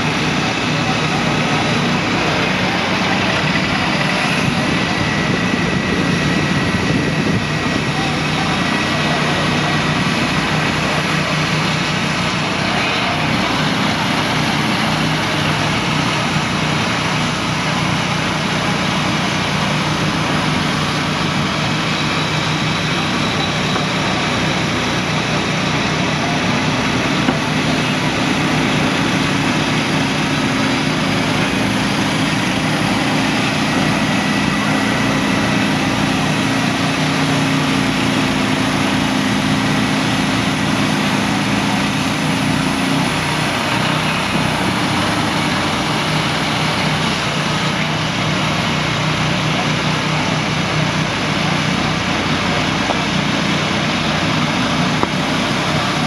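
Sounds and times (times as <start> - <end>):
gasoline engine running under load: 0.0 - 56.0.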